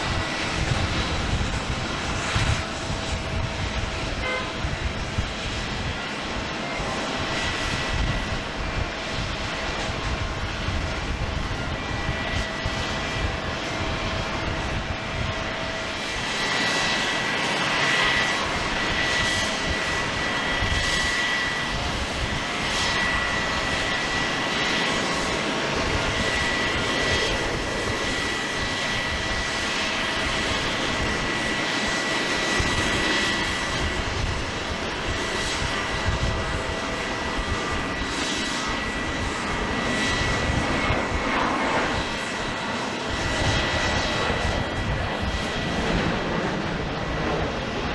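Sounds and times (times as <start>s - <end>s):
jet engines running: 0.0s - 47.9s.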